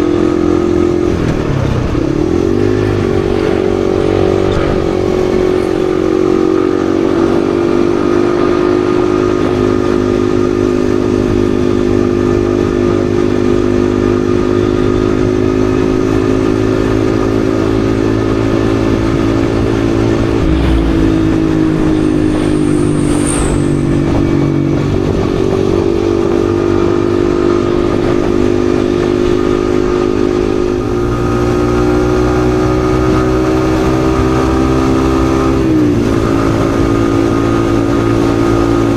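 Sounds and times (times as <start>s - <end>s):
road and wind rumble: 0.0s - 38.9s.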